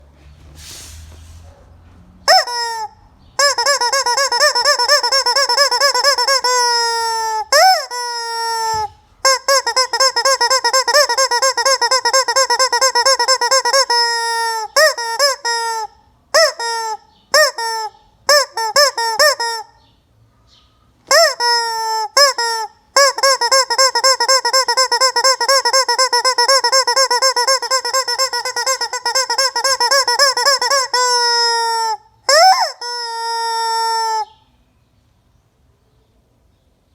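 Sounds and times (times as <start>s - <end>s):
rubber chicken toy squeaking: 2.3s - 19.8s, 21.1s - 34.4s.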